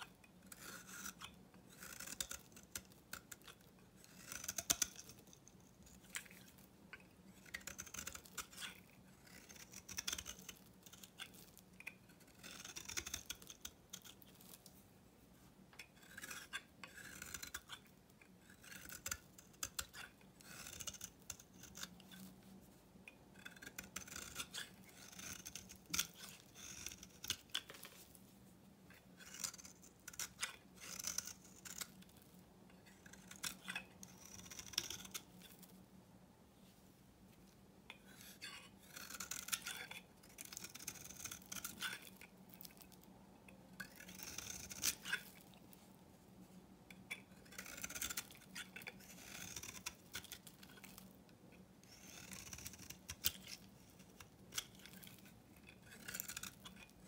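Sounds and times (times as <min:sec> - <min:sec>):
knife scraping soap: 0:00.0 - 0:14.8, 0:15.7 - 0:28.2, 0:28.9 - 0:35.7, 0:37.9 - 0:45.8, 0:46.9 - 0:57.0.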